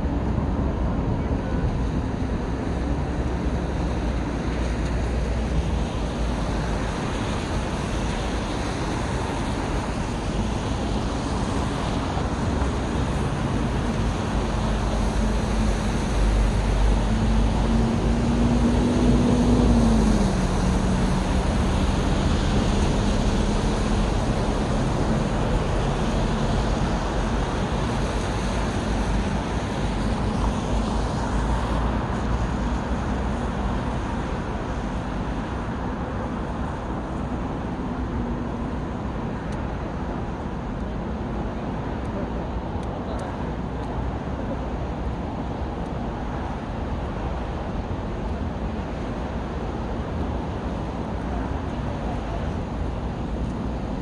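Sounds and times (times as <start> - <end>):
city road traffic: 0.0 - 54.0.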